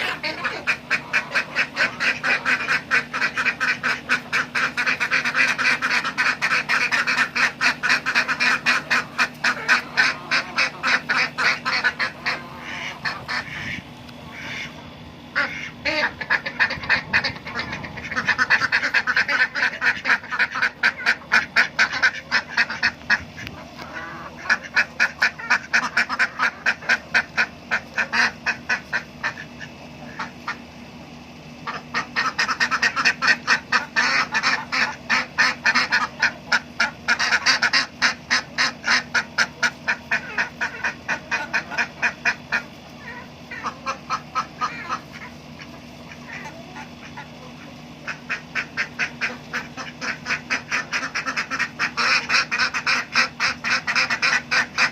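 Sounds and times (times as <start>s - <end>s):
ducks quacking: 0.0s - 54.9s.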